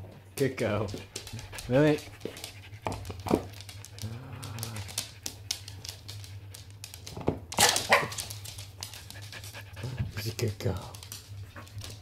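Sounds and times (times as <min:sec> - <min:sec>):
dog claws clicking on wooden floor: 0:00.5 - 0:12.0.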